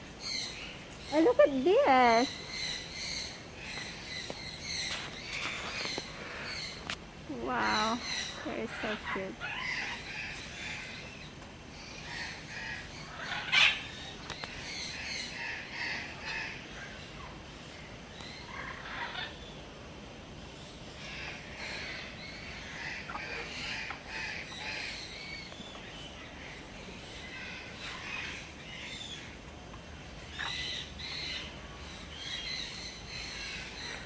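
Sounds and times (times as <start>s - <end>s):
parrots chattering and calling: 0.0s - 19.6s, 20.6s - 34.0s.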